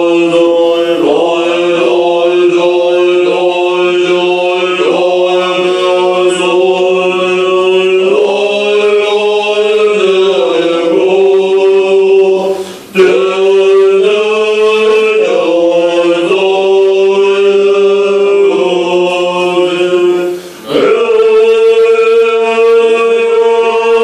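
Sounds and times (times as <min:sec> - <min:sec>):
monks chanting: 0:00.0 - 0:24.0.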